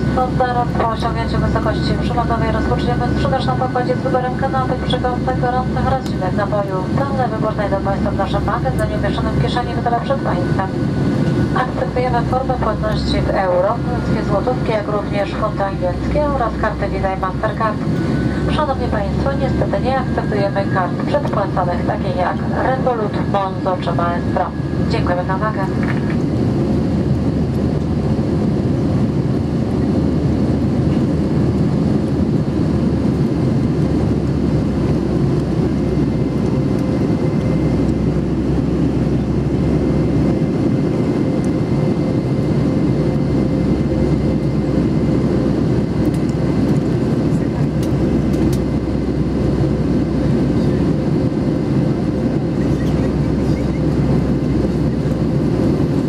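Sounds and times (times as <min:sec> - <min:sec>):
jet engines in airliner cabin: 0:00.0 - 0:56.0.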